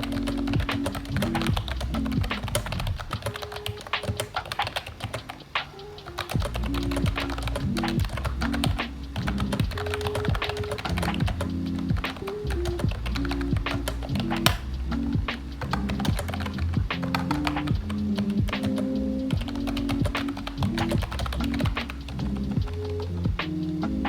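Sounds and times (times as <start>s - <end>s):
keyboard keys clicking: 0.0s - 23.6s
background music: 0.0s - 24.0s.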